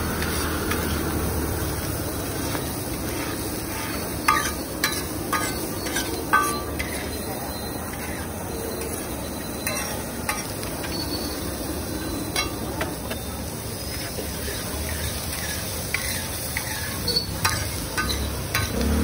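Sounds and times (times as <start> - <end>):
food sizzling on a griddle: 0.0 - 19.0
metal spatula scraping griddle: 0.0 - 19.0.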